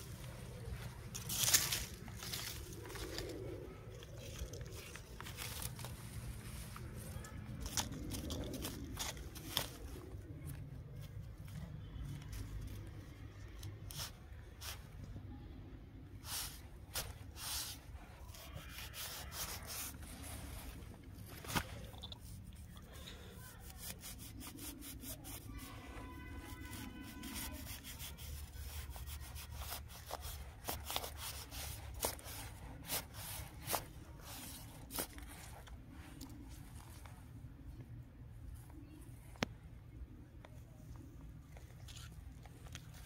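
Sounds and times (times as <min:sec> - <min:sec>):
stick scraping dry soil: 0:00.0 - 0:15.3, 0:16.0 - 0:37.5.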